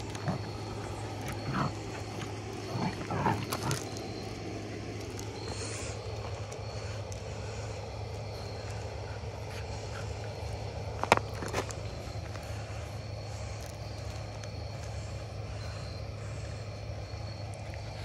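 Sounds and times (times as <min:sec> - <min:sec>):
puppies growling: 0:00.0 - 0:18.0
steady low hum: 0:00.0 - 0:18.0.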